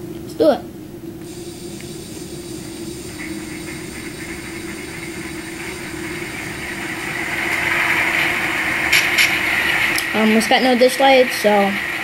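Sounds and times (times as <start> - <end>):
model locomotive diesel sound: 1.2 - 12.0.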